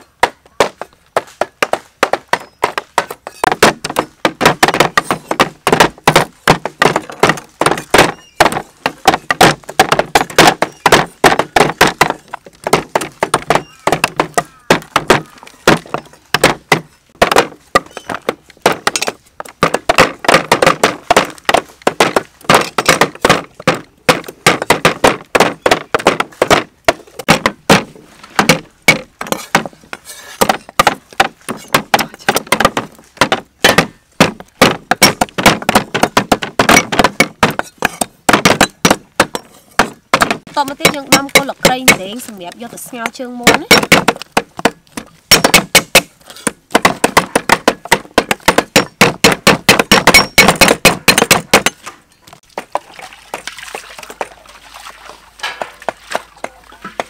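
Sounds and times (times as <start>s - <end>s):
cleavers chopping on wooden blocks: 0.0s - 54.3s, 55.4s - 57.0s.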